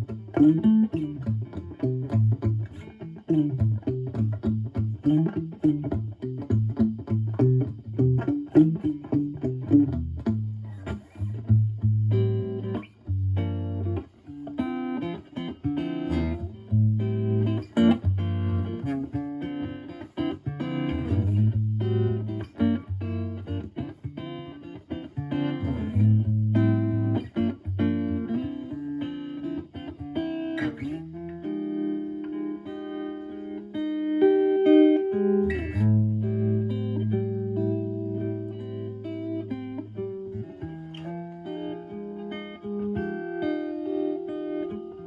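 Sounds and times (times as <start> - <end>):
electric guitar with tremolo: 0.0 - 45.0.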